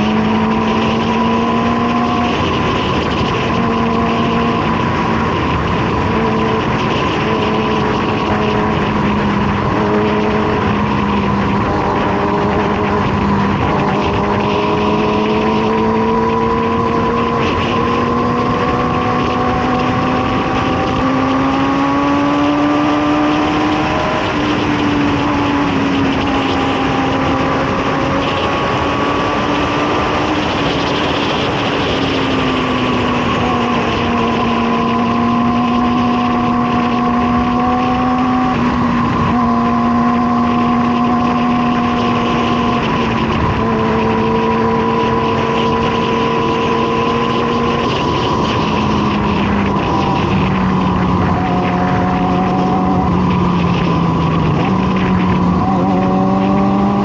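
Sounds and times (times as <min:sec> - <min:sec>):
motorcycle engine cruising: 0:00.0 - 0:57.0
wind noise: 0:00.0 - 0:57.0.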